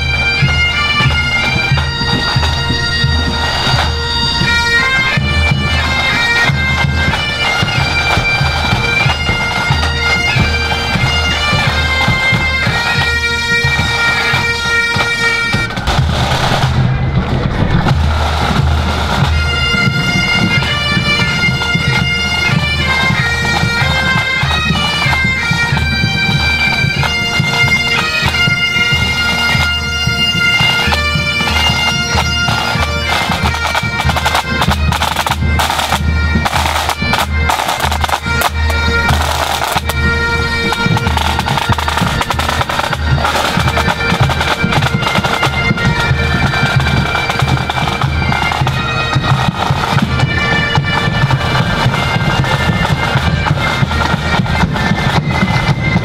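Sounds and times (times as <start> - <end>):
bagpipes playing a march: 0.0 - 56.0
drums beating: 0.0 - 56.0.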